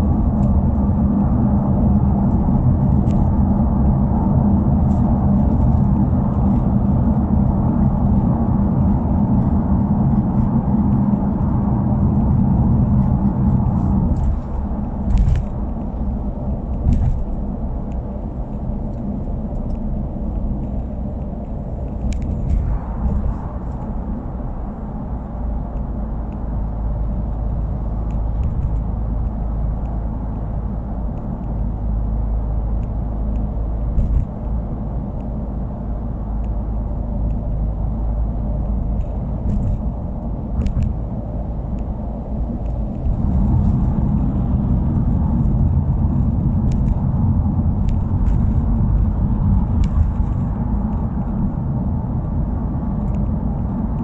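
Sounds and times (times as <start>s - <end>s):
car engine and exhaust rumbling: 0.0s - 54.0s.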